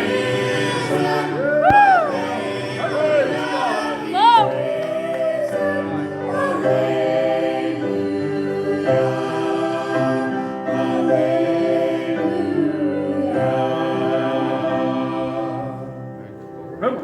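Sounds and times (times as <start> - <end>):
vocal group singing in harmony: 0.0 - 16.2.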